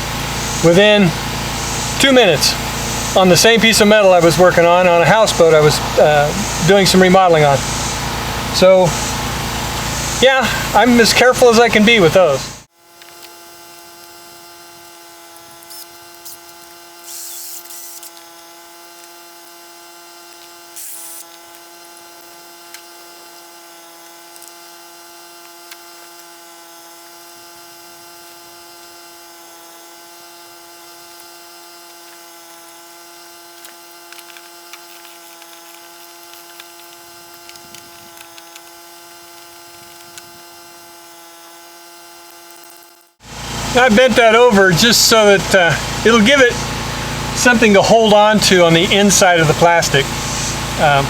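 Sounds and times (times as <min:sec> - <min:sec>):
drill bit scraping metal: 0:00.0 - 0:51.0
electric drill motor running: 0:00.0 - 0:51.0.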